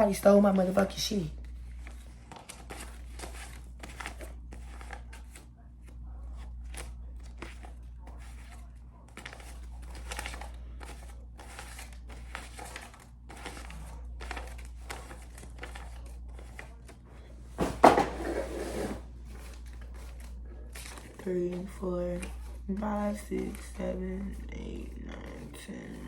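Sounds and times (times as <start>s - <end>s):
banknotes rustling: 0.0s - 26.0s.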